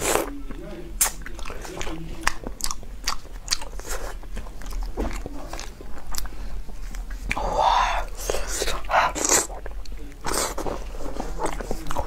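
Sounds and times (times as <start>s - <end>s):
chewing with wet mouth smacks: 0.0s - 12.0s.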